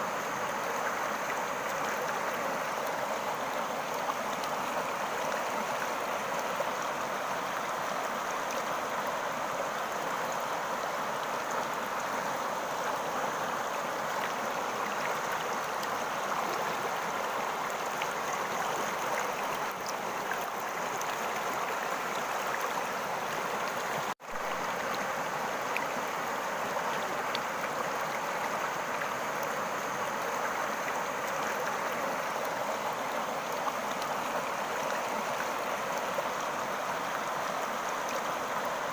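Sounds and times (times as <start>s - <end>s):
water running in a stream: 0.0s - 38.9s.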